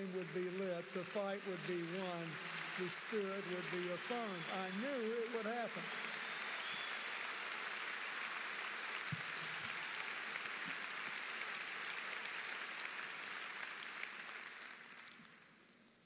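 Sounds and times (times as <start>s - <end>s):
large crowd applauding: 0.0s - 15.7s.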